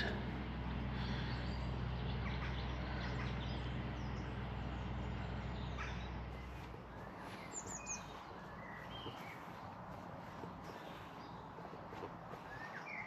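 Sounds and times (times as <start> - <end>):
low steady hum: 0.0 - 12.5
birds singing and chirping: 0.0 - 13.0.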